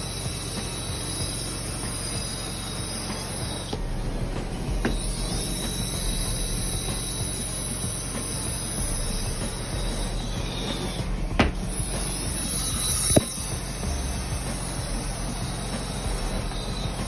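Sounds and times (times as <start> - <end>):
low machine hum: 0.0 - 17.0
rushing suction hiss: 0.0 - 17.0.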